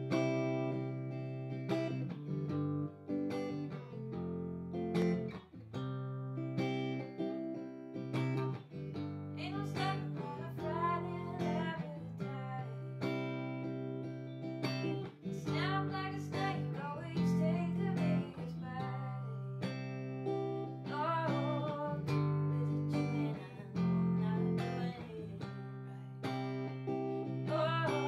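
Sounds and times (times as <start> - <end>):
wavering guitar melody line: 0.0 - 28.0.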